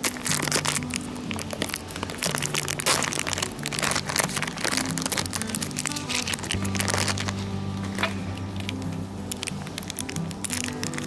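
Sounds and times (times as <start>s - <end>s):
background music: 0.0s - 11.0s
plastic bag crinkling: 0.0s - 11.0s.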